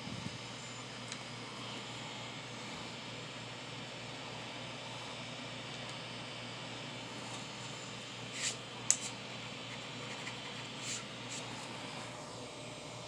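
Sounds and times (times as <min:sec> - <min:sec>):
three d printer running with fans: 0:00.0 - 0:13.0.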